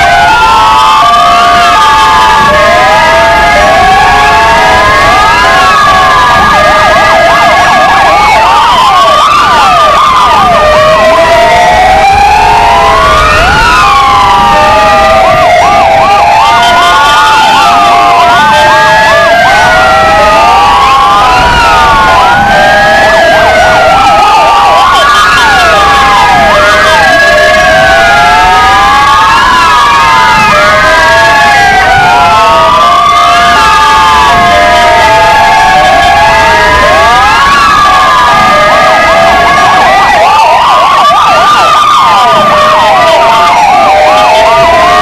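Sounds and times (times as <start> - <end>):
electronic sirens wailing and yelping: 0.0 - 45.0.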